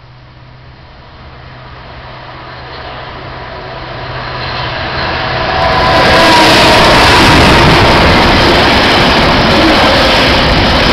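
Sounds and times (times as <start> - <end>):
diesel locomotive approaching: 0.0 - 10.9
rushing train noise: 0.0 - 10.9.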